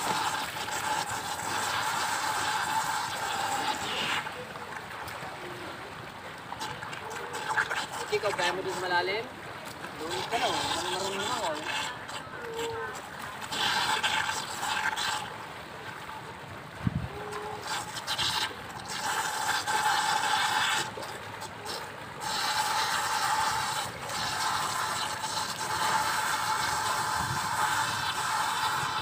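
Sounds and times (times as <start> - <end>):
swimmer splashing water: 0.0 - 29.0.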